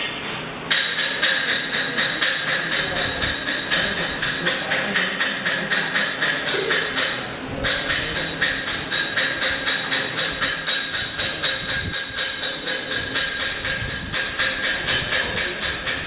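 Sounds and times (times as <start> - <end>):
rapid knocking on metal: 0.7 - 16.0.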